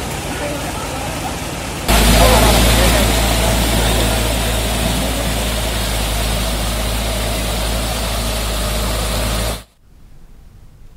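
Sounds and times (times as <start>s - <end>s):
floodwater rushing in a river: 0.0s - 9.7s.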